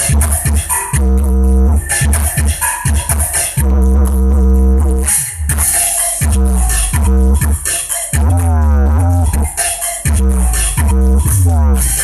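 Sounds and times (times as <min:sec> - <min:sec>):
bass-heavy dance music: 0:00.0 - 0:12.0.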